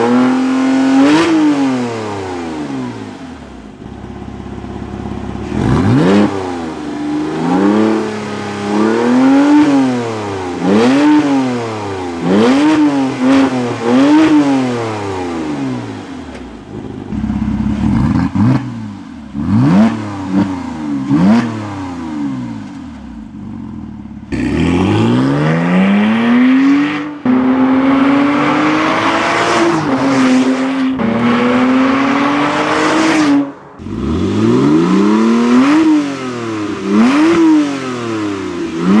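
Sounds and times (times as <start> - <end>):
sports car engine revving: 0.0 - 39.0.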